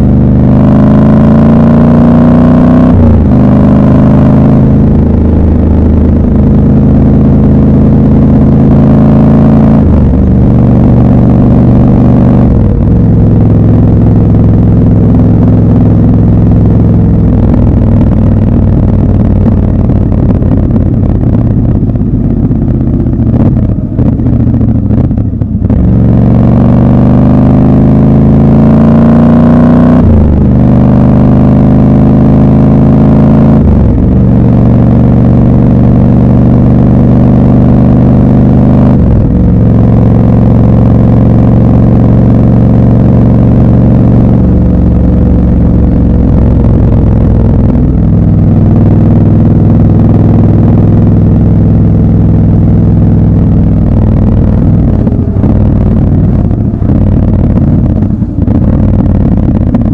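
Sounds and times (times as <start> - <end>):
motorcycle engine at riding speed: 0.0 - 59.9.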